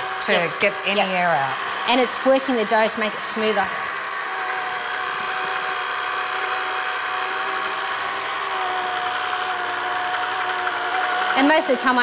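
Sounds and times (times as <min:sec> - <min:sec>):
pasta machine motor humming: 0:00.0 - 0:12.0.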